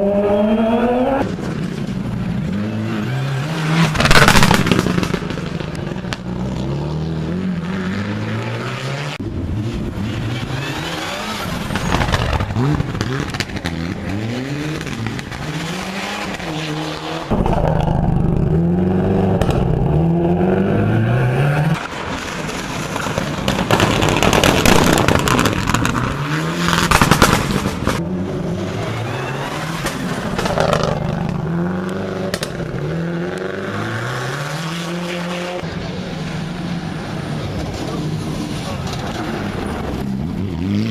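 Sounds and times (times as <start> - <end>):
rally cars accelerating: 0.0 - 40.9.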